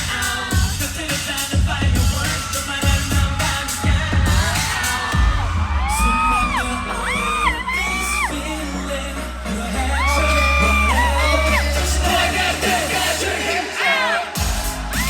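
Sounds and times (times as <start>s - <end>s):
pop song over sound system: 0.0s - 15.0s
crowd whooping: 2.1s - 15.0s.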